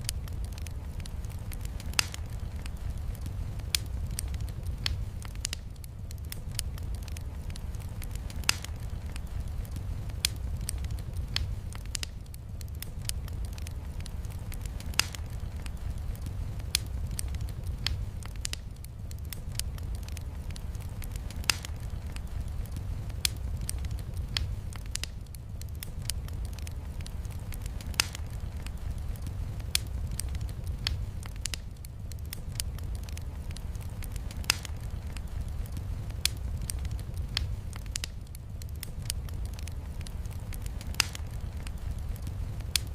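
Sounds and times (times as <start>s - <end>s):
soft hiss of rain: 0.0s - 42.9s
steady low rumble: 0.0s - 42.9s
wood fire crackling: 0.0s - 42.9s.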